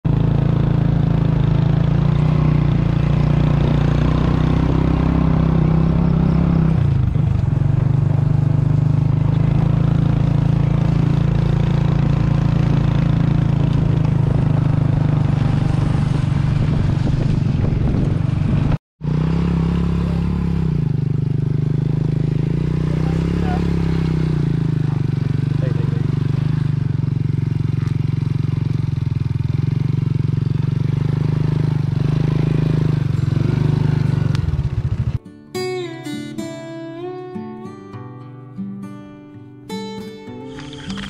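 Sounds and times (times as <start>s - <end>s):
motorcycle rattling: 0.1s - 35.2s, 40.4s - 41.0s
small motorcycle engine running: 0.1s - 35.2s, 40.5s - 41.0s.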